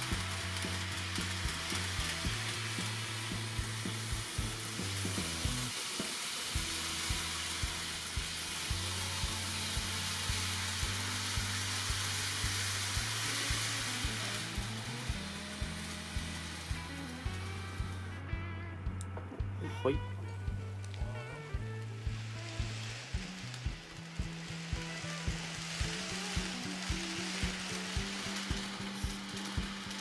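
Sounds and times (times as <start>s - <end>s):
background music low notes: 0.0s - 30.0s
model trains hissing and clicking: 0.0s - 30.0s.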